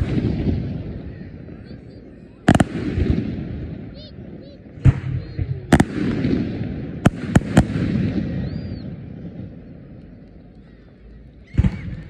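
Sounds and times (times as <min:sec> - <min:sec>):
fireworks bursting: 0:00.0 - 0:10.7, 0:11.4 - 0:12.0
rumbling echo: 0:00.0 - 0:12.0.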